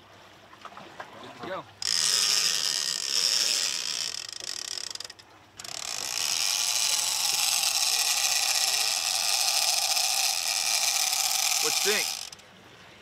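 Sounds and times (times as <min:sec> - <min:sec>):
fishing reel ratchet buzzing: 0:01.8 - 0:12.4.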